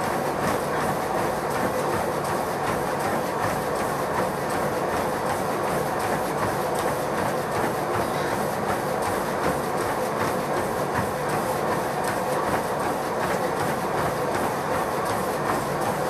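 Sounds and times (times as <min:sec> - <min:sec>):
footfalls on treadmill belt: 0:00.0 - 0:16.0
treadmill motor running: 0:00.0 - 0:16.0.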